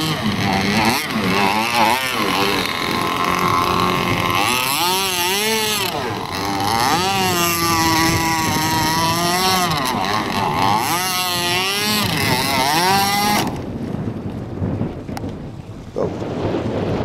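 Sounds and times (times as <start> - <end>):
model boat motor revving: 0.0 - 13.8
water noise: 0.0 - 17.0
wind: 0.0 - 17.0.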